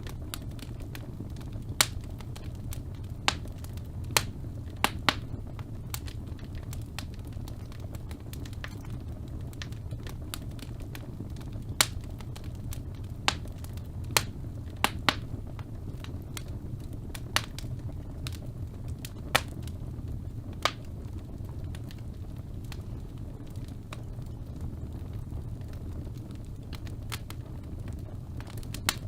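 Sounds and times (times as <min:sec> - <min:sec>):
fire crackling and popping: 0:00.0 - 0:29.0
low rumble of flames: 0:00.0 - 0:29.0.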